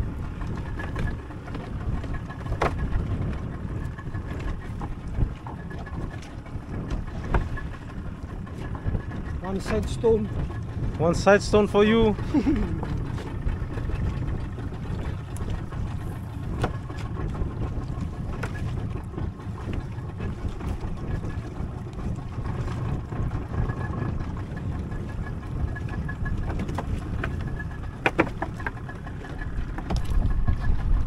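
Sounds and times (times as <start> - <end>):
wind and water rumble: 0.0 - 31.0.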